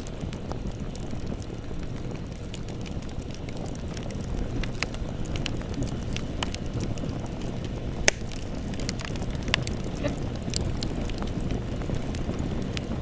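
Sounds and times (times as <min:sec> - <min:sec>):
campfire flames rushing: 0:00.0 - 0:13.0
fire crackling and snapping: 0:00.0 - 0:13.0
loud pop from fire: 0:00.0 - 0:13.0.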